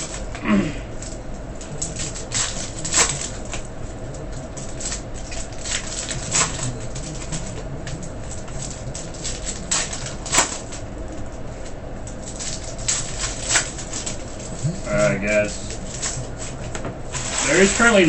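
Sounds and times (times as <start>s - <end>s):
card wrappers rustling: 1.0s - 18.0s.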